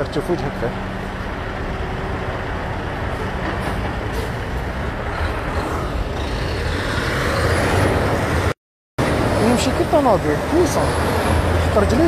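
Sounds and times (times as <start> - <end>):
dump truck diesel engine rumbling: 0.0 - 12.0
street traffic: 0.0 - 12.0.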